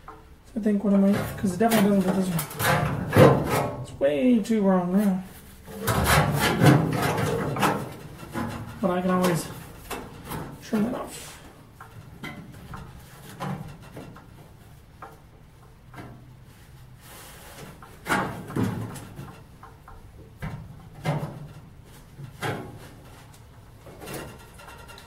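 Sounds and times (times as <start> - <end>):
sheet steel knocking and scraping: 0.9 - 4.0, 5.6 - 25.0.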